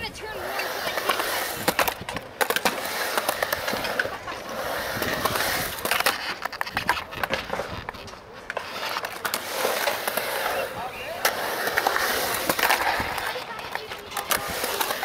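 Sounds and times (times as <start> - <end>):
skateboard clicks and clacks: 0.0 - 15.0
skateboard wheels rolling on concrete: 0.0 - 15.0.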